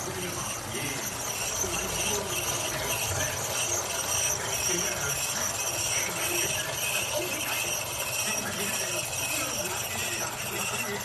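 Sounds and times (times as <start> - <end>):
drive belt squeaking: 0.0 - 11.0
low flywheel hum: 0.0 - 11.0.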